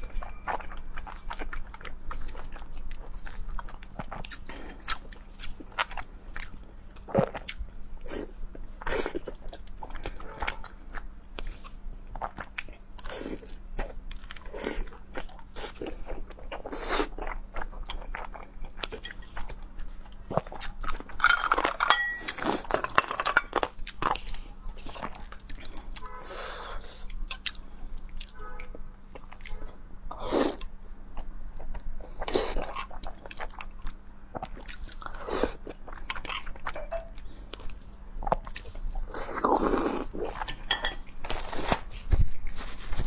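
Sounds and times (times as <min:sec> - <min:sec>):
person chewing and crunching food: 0:00.0 - 0:43.0.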